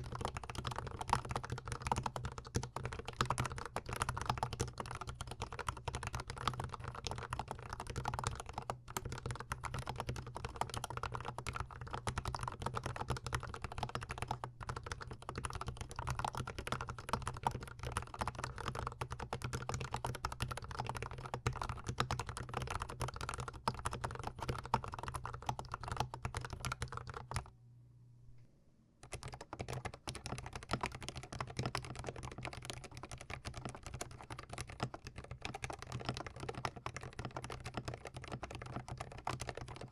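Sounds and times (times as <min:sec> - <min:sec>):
mechanical keyboard typing: 0:00.0 - 0:27.5, 0:29.0 - 0:39.9.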